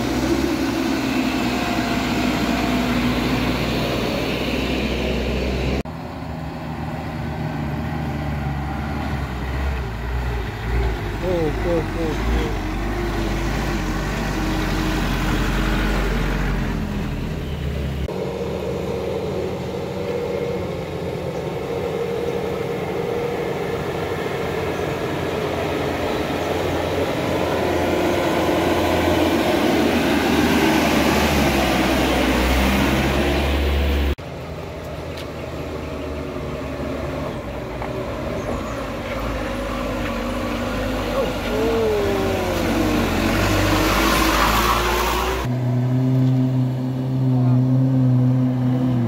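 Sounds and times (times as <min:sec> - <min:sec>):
truck diesel engine climbing: 0:00.0 - 0:49.0.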